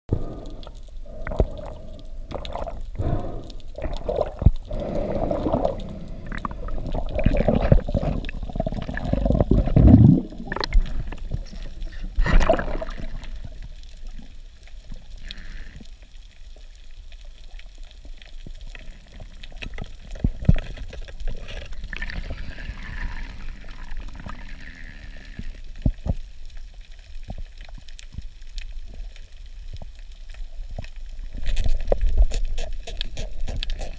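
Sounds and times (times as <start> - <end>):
underwater rushing and bubbling: 0.1 - 33.9.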